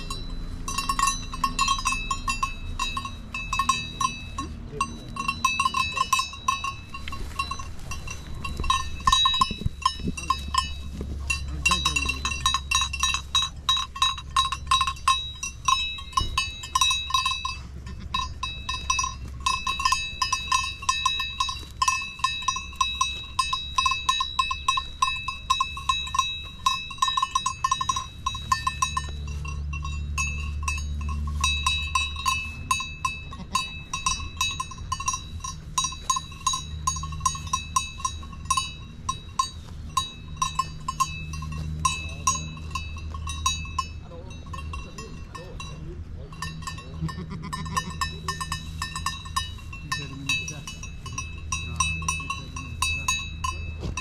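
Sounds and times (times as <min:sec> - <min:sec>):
goat bells clanking: 0:00.0 - 0:54.0.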